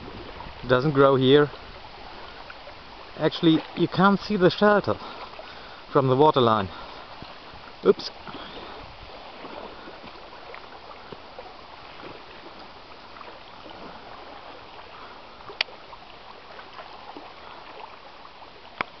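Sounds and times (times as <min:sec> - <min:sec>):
small waves lapping on rocks: 0:00.0 - 0:19.0.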